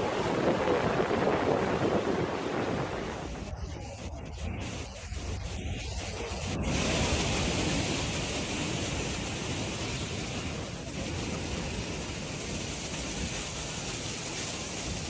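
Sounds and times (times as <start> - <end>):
heavy sea waves breaking: 0.0 - 15.0.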